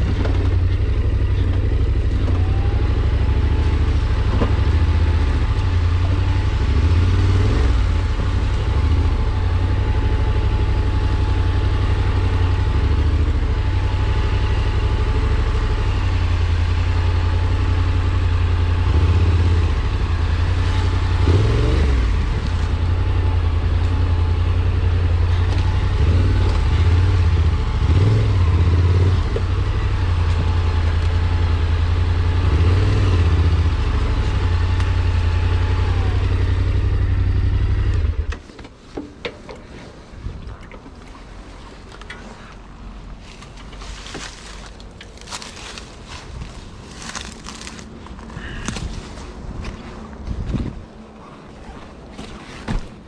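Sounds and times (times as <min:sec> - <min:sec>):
engine droning: 0:00.0 - 0:53.0
faint wind: 0:00.0 - 0:53.0.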